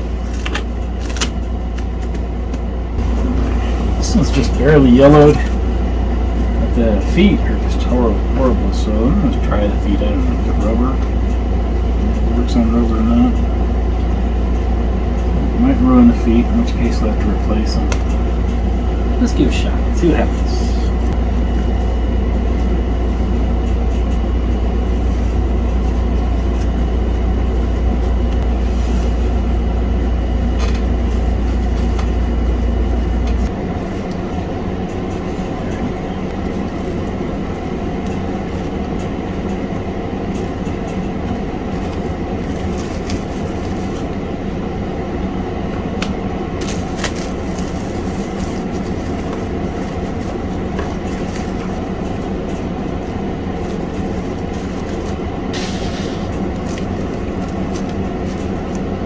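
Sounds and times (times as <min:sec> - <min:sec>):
deep low mechanical rumble: 0:00.0 - 0:59.0
lighter steady machine drone: 0:00.0 - 0:59.0.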